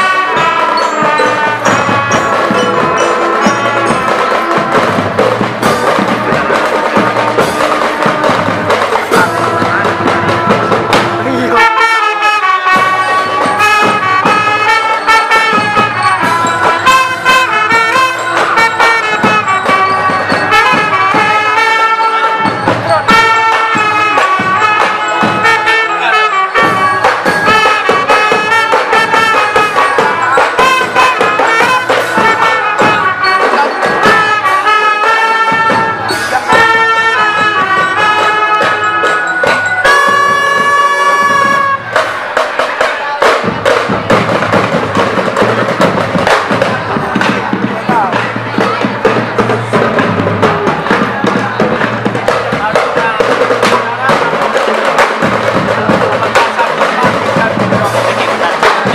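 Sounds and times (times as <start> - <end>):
brass melody: 0.0 - 58.9
marching drums: 0.0 - 58.9.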